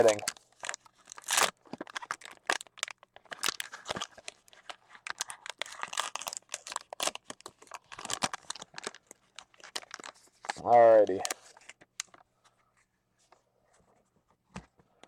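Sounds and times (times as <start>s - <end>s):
plastic wrapping crinkling and tearing: 0.0s - 12.2s.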